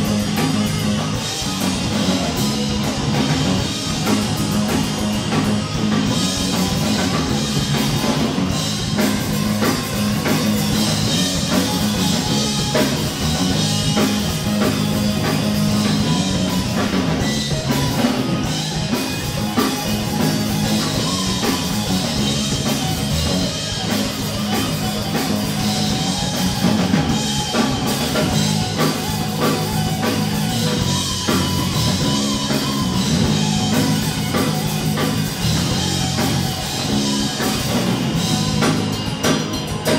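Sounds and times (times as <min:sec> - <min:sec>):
punk rock band playing: 0:00.0 - 0:39.9.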